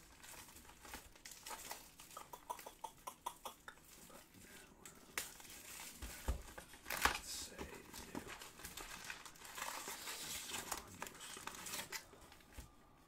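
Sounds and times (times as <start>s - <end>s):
plastic wrapping crinkling and tearing: 0.0s - 2.8s, 3.8s - 12.8s.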